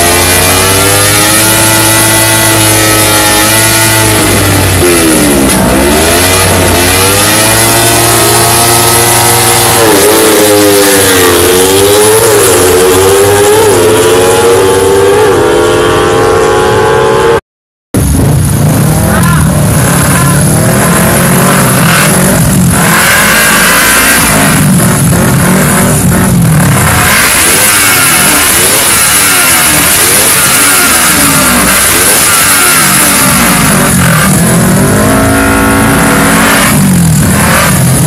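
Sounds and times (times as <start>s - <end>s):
motorcycle engines revving: 0.0s - 17.4s, 18.0s - 38.0s.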